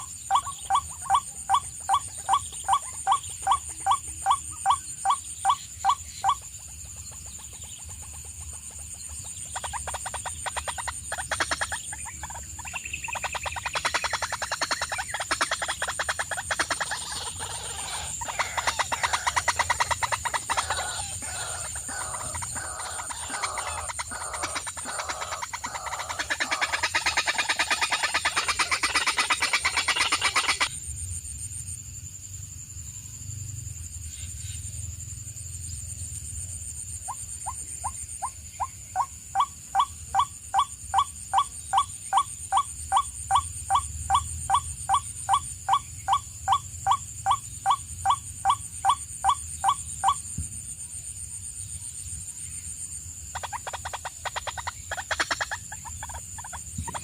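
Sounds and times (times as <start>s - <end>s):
chorus of rapid animal calls: 0.0s - 30.7s, 37.1s - 50.2s, 53.3s - 57.0s.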